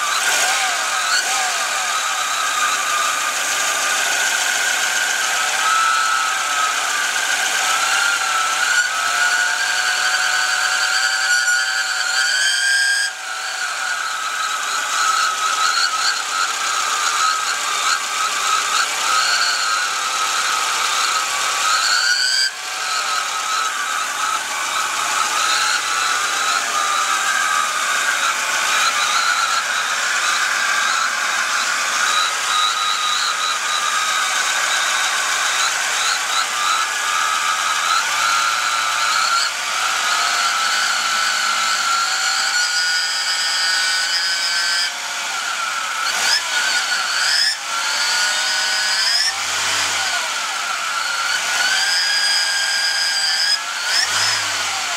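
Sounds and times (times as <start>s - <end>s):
whistle-like whine: 1.9s - 54.9s.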